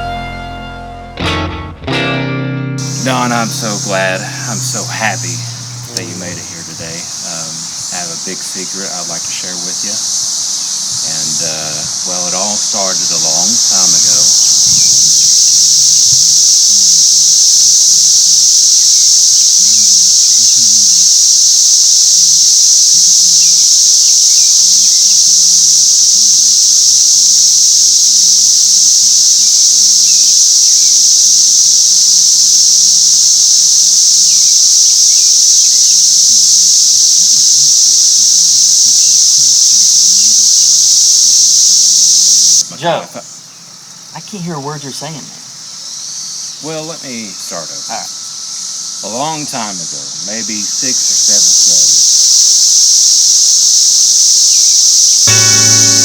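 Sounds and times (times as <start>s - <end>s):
cicadas buzzing: 0.0s - 0.7s, 2.8s - 56.0s.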